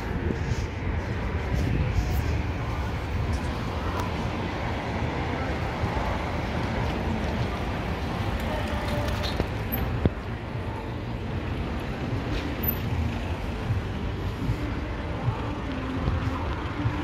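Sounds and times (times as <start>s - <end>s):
traffic engine and tyre rumble: 0.0s - 17.0s.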